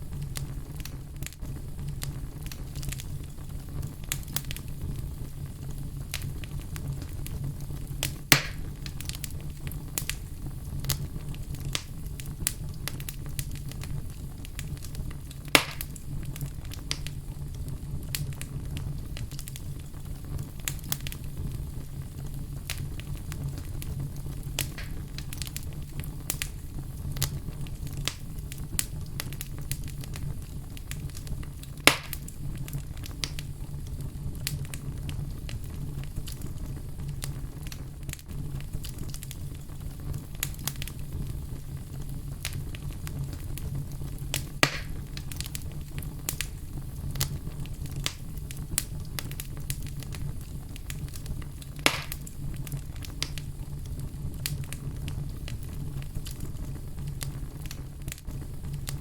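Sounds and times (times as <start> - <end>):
fire crackling: 0.0 - 59.0
fire popping: 0.0 - 59.0.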